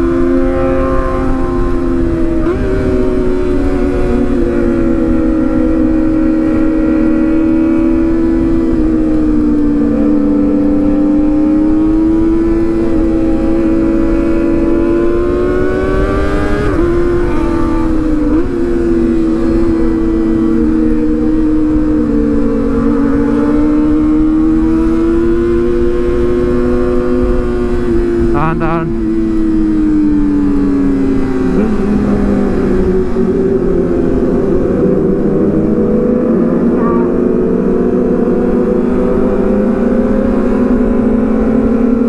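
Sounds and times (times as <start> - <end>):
motorcycle engine revving: 0.0 - 42.0
wind rumble on microphone: 0.0 - 42.0.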